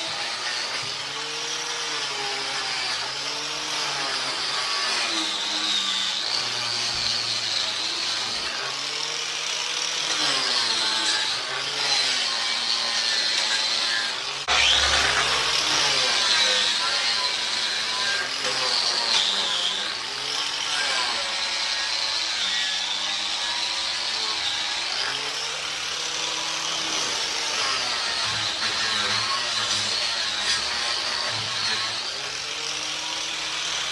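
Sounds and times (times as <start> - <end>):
angle grinder scrubbing metal: 0.0 - 33.9.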